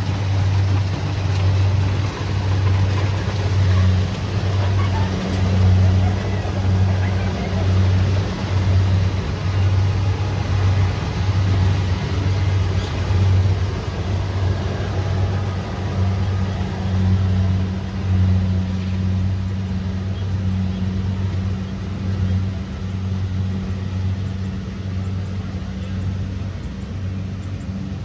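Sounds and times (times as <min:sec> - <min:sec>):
combine harvester diesel engine: 0:00.0 - 0:28.0.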